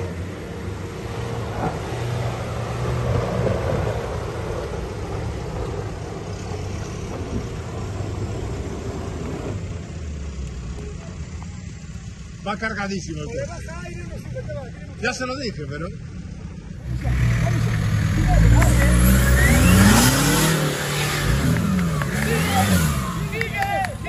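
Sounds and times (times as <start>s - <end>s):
off-road vehicle engine running: 0.0s - 24.0s.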